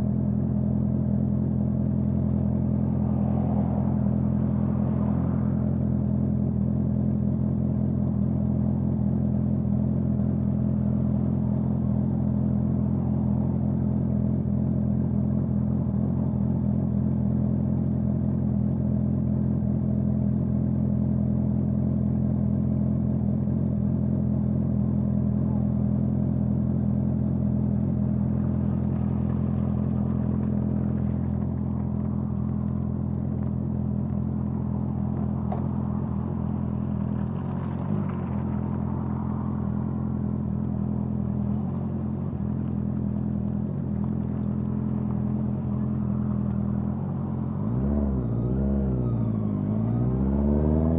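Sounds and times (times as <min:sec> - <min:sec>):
motorcycle engine running steadily: 0:00.0 - 0:03.2, 0:05.5 - 0:49.7.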